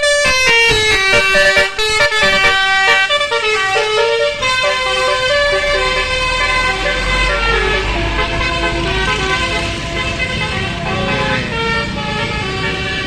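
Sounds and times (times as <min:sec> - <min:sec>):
bus engine rumble: 0:00.0 - 0:13.0
multi-tone bus horn melody: 0:00.0 - 0:13.0.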